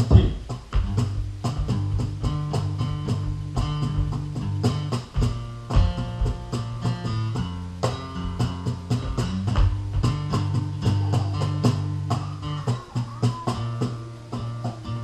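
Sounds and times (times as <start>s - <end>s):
acoustic guitar strumming: 0.0s - 15.0s
cajon hits: 0.0s - 15.0s.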